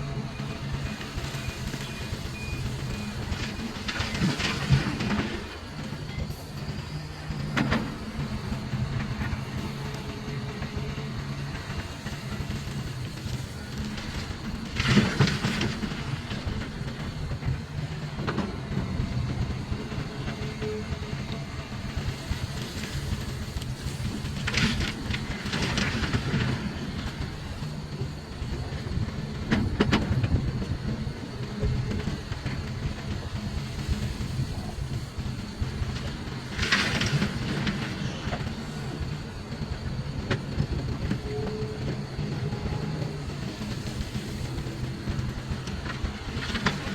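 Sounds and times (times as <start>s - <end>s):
excavator diesel engine under load: 0.0s - 46.9s.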